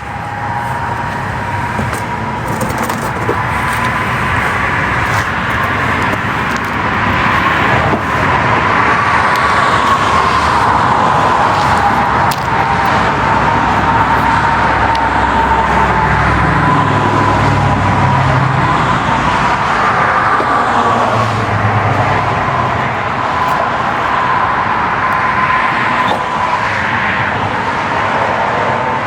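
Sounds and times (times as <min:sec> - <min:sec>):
low engine rumble: 0:00.0 - 0:27.8
road traffic noise: 0:00.0 - 0:29.0.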